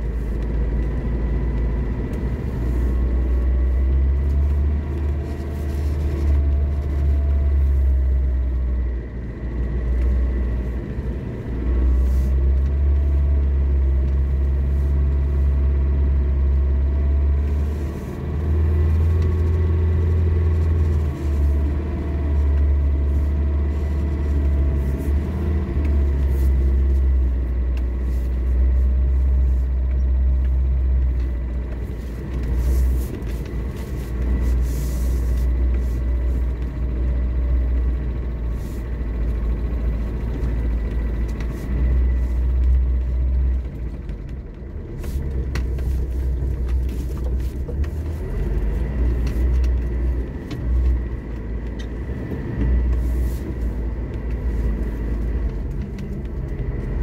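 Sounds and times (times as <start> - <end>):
car engine droning under load: 0.0 - 57.0.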